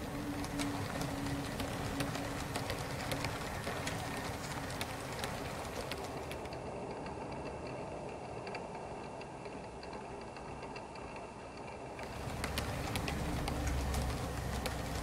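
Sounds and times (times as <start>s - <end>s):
model train coaches rolling on track: 0.0s - 15.0s
wheels clicking over rail joints: 0.0s - 15.0s.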